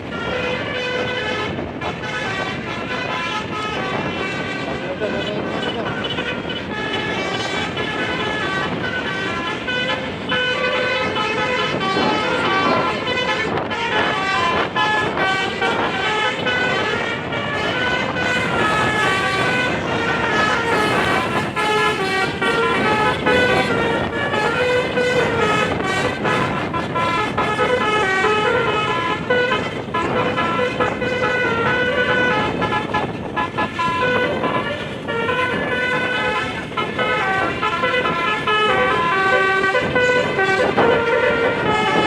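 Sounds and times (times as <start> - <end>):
bus horn playing melody: 0.0 - 42.0
road vehicle noise: 0.0 - 42.0.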